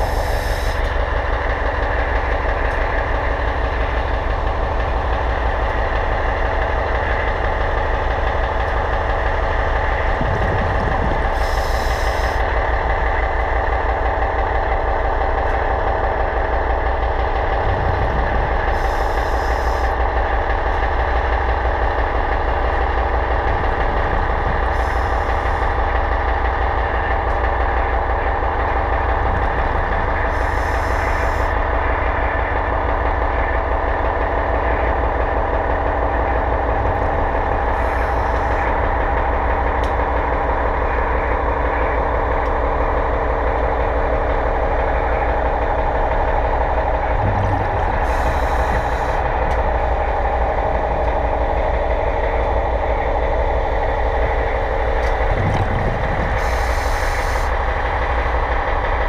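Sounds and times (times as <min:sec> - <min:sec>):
machinery drone underwater: 0:00.0 - 0:59.0.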